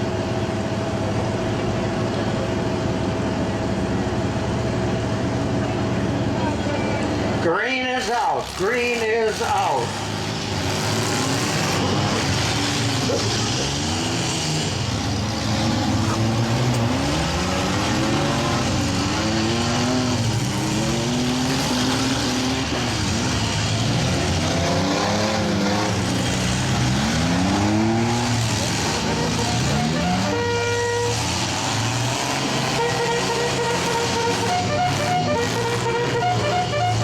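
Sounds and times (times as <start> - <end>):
steady background noise: 0.0 - 29.9
truck engines revving: 0.0 - 37.0.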